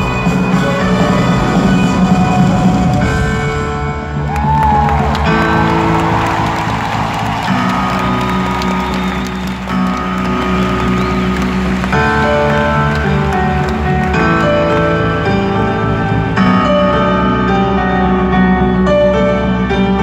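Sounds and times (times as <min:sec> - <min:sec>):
live concert chords: 0:00.0 - 0:20.0
crowd cheering: 0:00.6 - 0:16.8.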